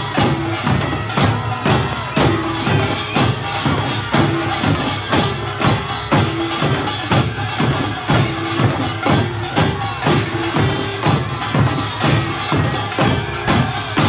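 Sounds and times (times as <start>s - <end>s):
percussion troupe drumming: 0.0s - 14.0s.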